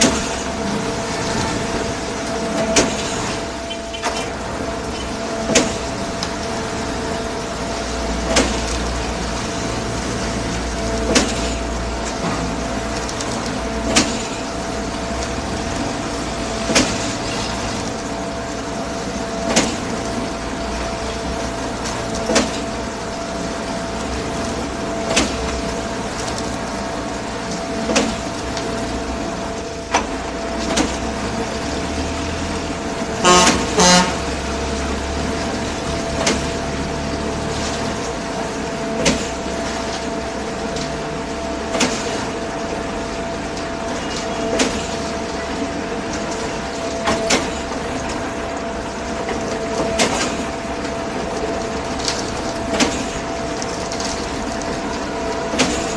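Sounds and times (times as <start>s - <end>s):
pump running hum: 0.0s - 55.9s.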